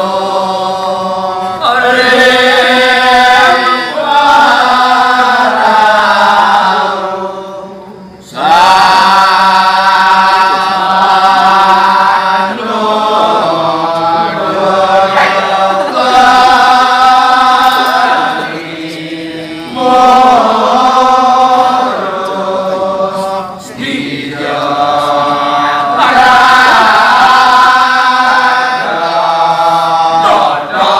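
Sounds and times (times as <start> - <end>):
men chanting in chorus: 0.0 - 30.9.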